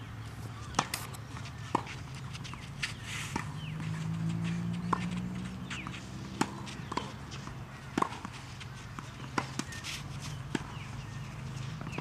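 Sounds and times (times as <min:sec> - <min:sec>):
tennis balls struck: 0:00.7 - 0:12.0.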